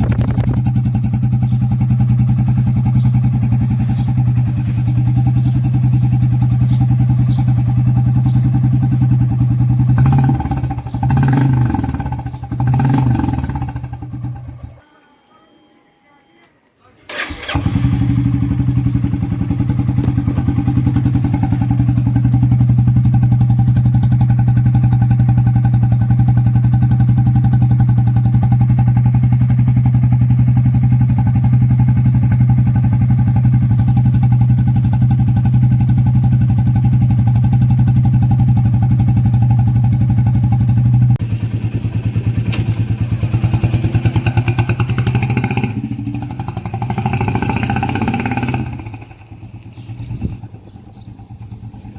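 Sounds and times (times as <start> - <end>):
motorcycle engine idling: 0.0 - 15.2, 17.1 - 51.9.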